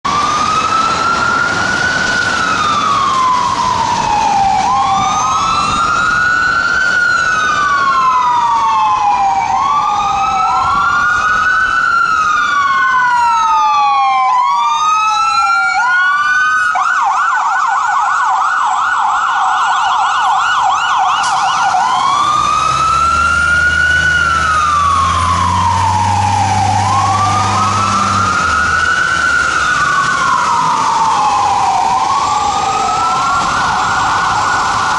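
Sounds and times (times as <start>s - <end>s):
fire truck sirens wailing: 0.0s - 34.9s.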